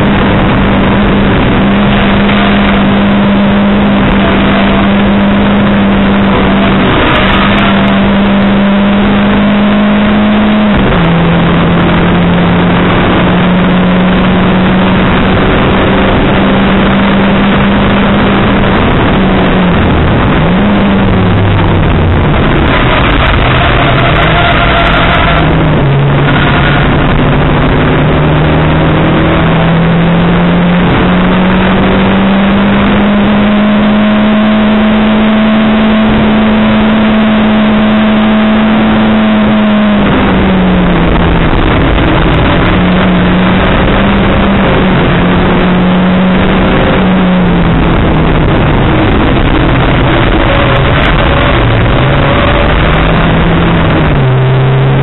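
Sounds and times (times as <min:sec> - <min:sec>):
car engine revving under load: 0:00.0 - 0:55.0
road and wind noise: 0:00.0 - 0:55.0.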